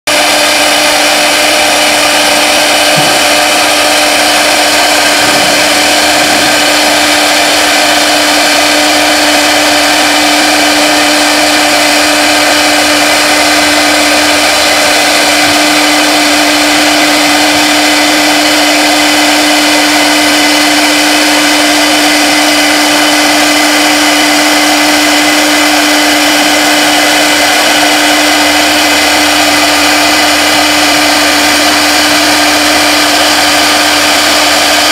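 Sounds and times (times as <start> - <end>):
end mill cutting acrylic: 0.1 - 34.9
router spindle whine: 0.1 - 34.9.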